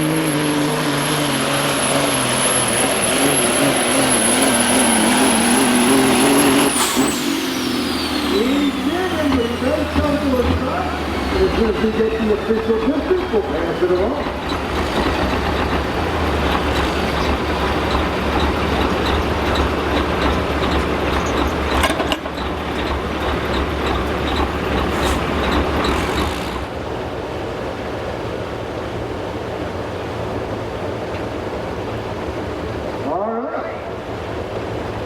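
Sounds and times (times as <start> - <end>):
diesel engine running at low revs: 0.0 - 35.0.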